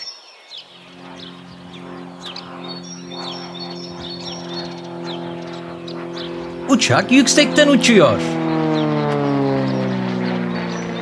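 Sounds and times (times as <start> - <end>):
birds chirping: 0.0 - 11.0
airplane engine droning: 0.6 - 11.0.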